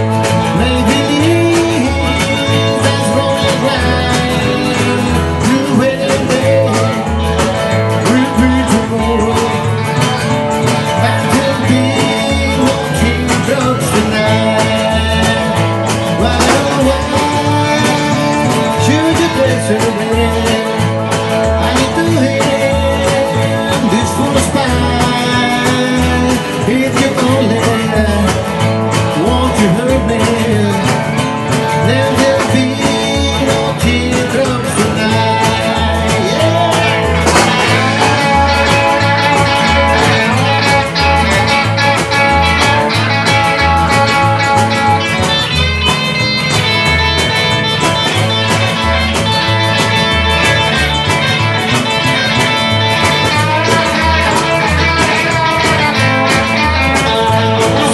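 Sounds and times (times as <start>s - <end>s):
acoustic guitar rhythm: 0.0s - 57.9s
drums: 0.0s - 57.9s
electric guitar: 0.0s - 57.9s
upright bass: 0.0s - 57.9s.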